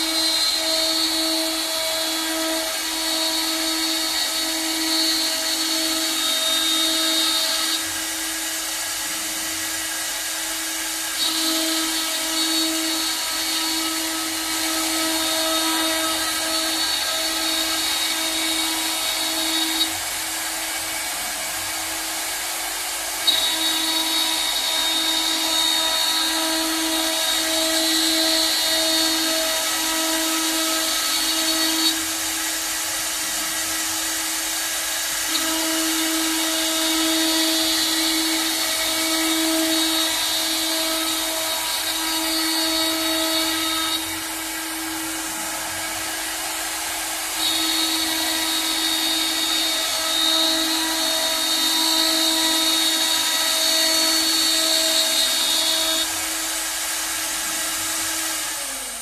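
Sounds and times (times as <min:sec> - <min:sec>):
lathe mechanical hum: 0:00.0 - 0:59.0.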